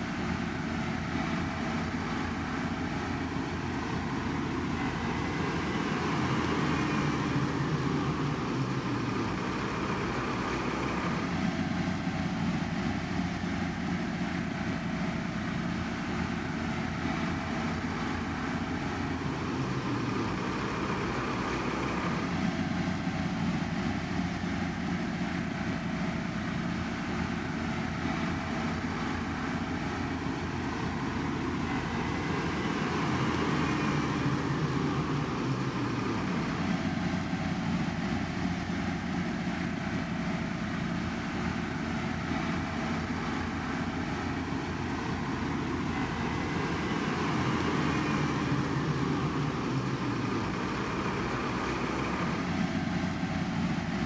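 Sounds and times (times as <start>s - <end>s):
heavy machinery engines rumbling: 0.0s - 54.0s.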